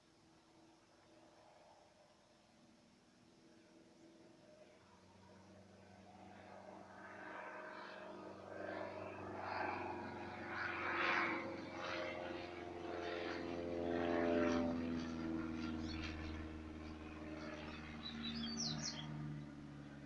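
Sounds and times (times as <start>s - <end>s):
propeller plane engine at full power: 0.0s - 20.0s.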